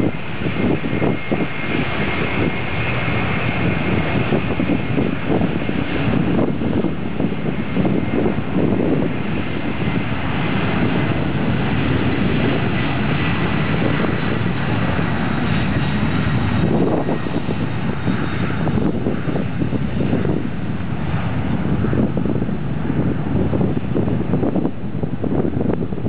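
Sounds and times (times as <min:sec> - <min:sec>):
faint high engine whine: 0:00.0 - 0:26.0
jet engines running: 0:00.0 - 0:26.0.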